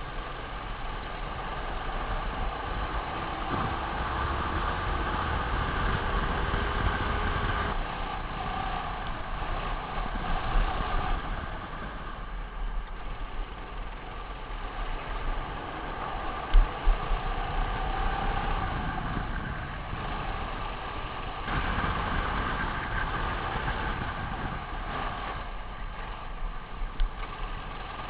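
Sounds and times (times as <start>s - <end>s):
kart engine running: 0.0s - 28.0s
rushing wind: 0.0s - 28.0s.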